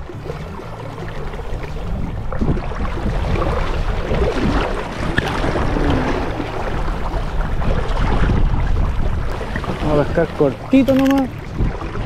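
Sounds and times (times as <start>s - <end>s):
river rushing and splashing: 0.0s - 12.0s
wind buffeting microphone: 1.7s - 12.0s.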